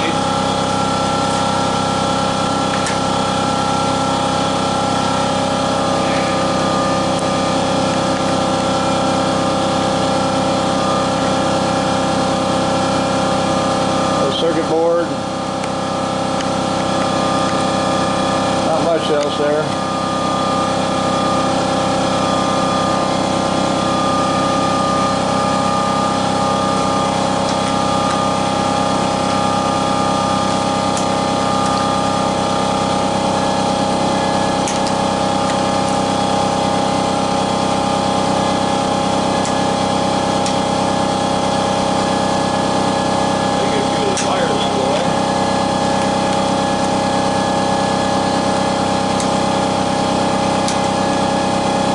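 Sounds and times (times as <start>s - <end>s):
machine humming: 0.0s - 51.9s.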